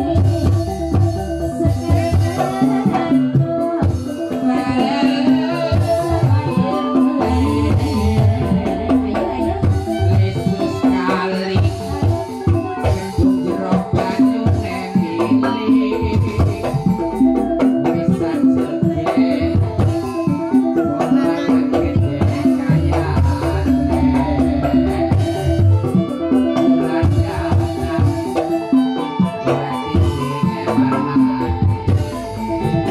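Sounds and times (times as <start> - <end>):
hand drum beating: 0.0 - 32.9.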